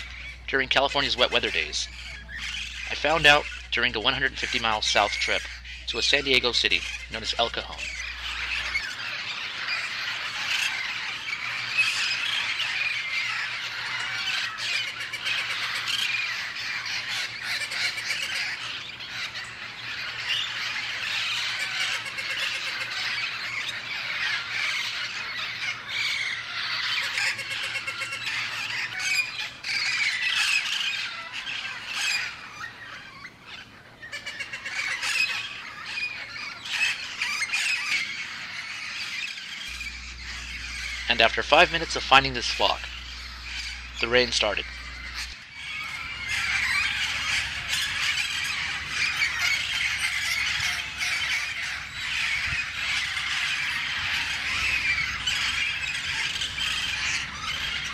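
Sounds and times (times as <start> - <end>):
parrots squawking and calling: 0.0 - 57.9.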